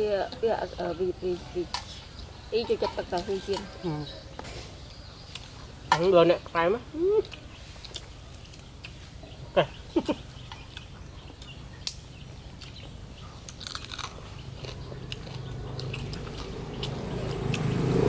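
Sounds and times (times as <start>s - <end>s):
crunching and chewing food: 1.7s - 6.2s, 7.2s - 18.0s.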